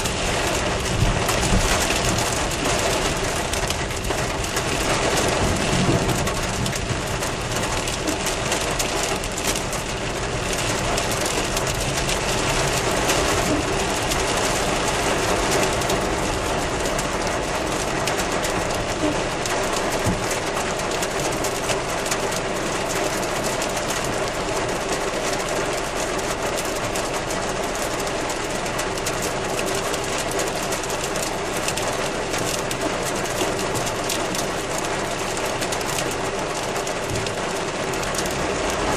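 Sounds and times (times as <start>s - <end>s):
heavy rain on a moving car: 0.0s - 38.9s.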